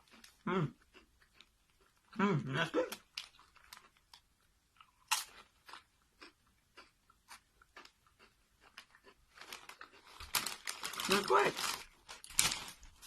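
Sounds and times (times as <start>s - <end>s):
person chewing crunchy chips: 0.0s - 13.0s.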